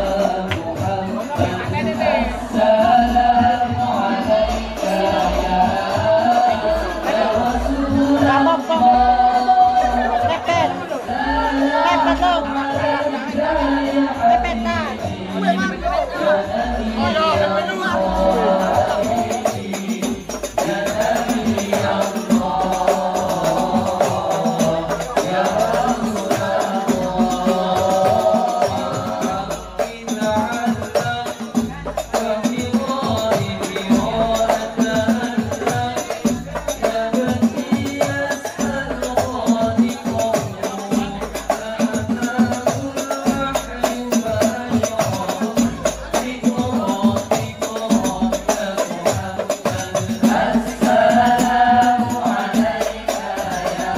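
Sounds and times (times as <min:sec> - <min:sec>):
frame drums beating: 0:00.0 - 0:53.9
young men singing into microphones: 0:00.0 - 0:53.9.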